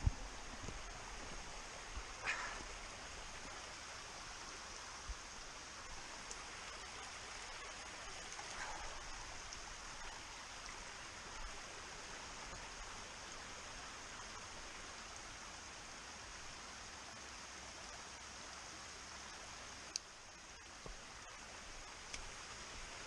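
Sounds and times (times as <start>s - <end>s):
stream flowing over rock: 0.0s - 23.0s.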